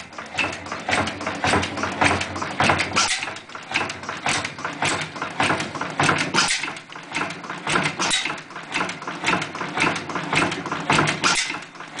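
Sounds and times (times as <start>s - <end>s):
oil engine clattering: 0.0s - 12.0s.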